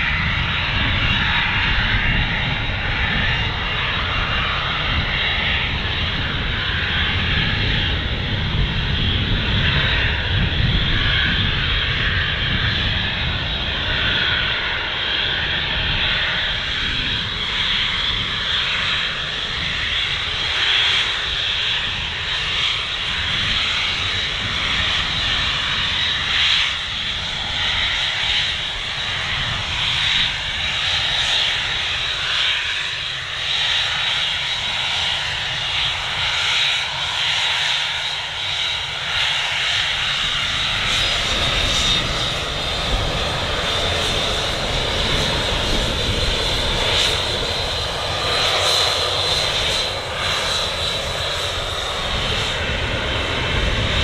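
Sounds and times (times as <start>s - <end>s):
jet engines whining: 0.0s - 54.0s
jet exhaust rushing: 0.0s - 54.0s.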